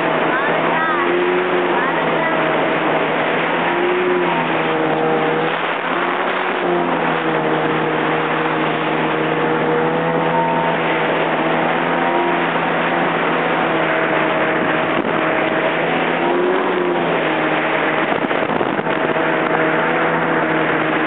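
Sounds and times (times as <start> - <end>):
jet ski engine running fast: 0.0 - 21.0
rushing water noise: 0.0 - 21.0.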